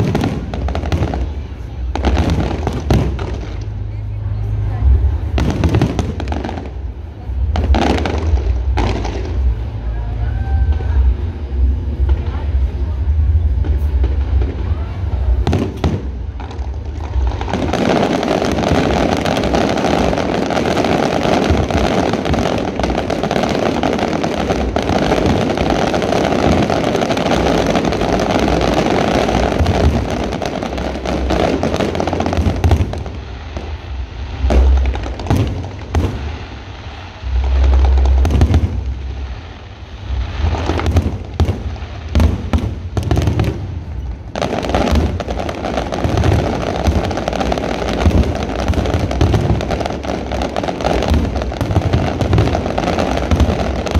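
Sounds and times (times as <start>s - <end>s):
fireworks bangs and booms: 0.0s - 53.9s
fireworks crackling: 0.0s - 53.9s.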